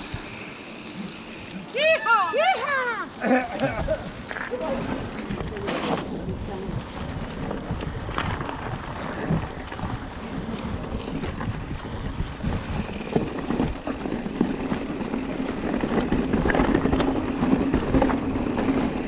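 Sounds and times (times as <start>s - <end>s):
bike rattling over bumps: 0.0s - 19.0s
bike tyres rolling: 0.0s - 19.0s
wind rushing over microphone: 3.7s - 19.0s.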